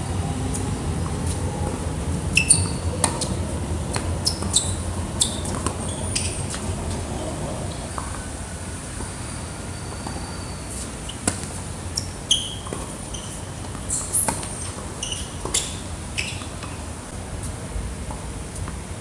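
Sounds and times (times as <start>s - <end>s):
shoes squeaking on court: 0.5s - 17.0s.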